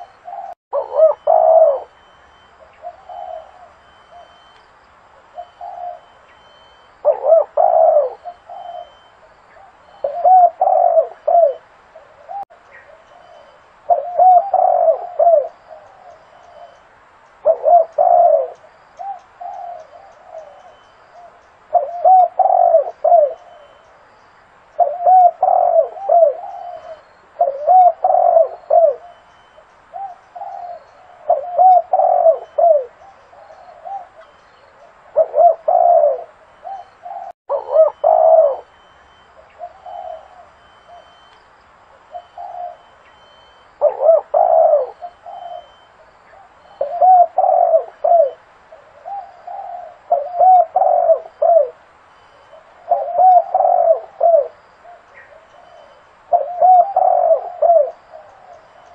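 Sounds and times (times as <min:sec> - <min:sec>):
dove cooing: 0:00.0 - 0:04.6, 0:05.2 - 0:16.8, 0:17.4 - 0:24.0, 0:24.7 - 0:41.3, 0:42.0 - 0:58.9.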